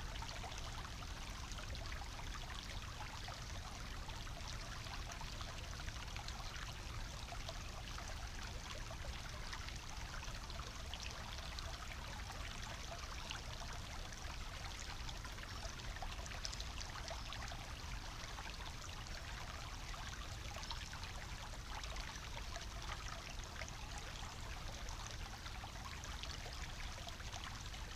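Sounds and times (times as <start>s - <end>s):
brook bubbling over stones: 0.0s - 27.9s.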